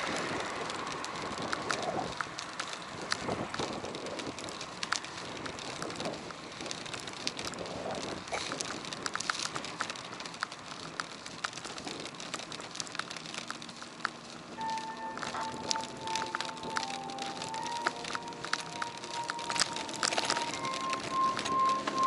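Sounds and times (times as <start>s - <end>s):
bicycle tyre noise: 0.0s - 22.0s
light clicks and ticks: 0.0s - 22.0s.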